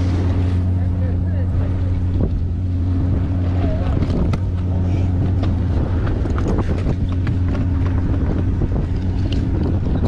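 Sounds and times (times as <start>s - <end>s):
boat engine droning: 0.0s - 10.0s
wind buffeting microphone: 0.0s - 10.0s.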